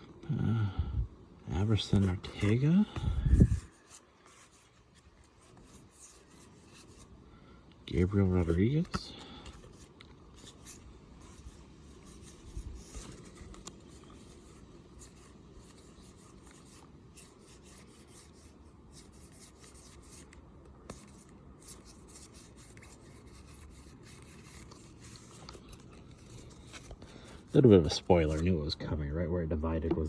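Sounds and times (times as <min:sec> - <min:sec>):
trading cards being handled: 0:01.6 - 0:07.1, 0:07.9 - 0:28.6.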